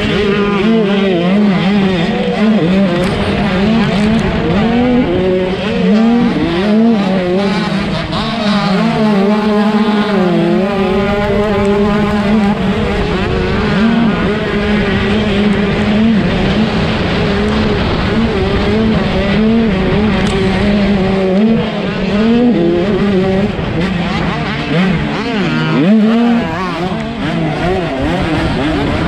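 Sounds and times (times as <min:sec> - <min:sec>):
constant rushing noise: 0:00.0 - 0:29.0
two-stroke motorbike engine revving: 0:00.0 - 0:29.0.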